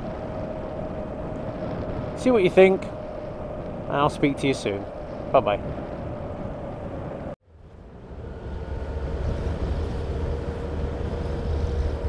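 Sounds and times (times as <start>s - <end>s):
motorcycle engine rumble: 0.0s - 12.0s
wind noise: 0.0s - 12.0s.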